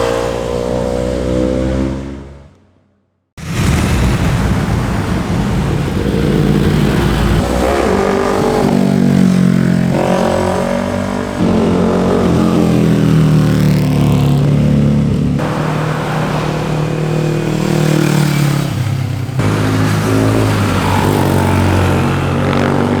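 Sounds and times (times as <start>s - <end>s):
motorcycle engines revving: 0.0s - 2.6s, 3.6s - 23.0s.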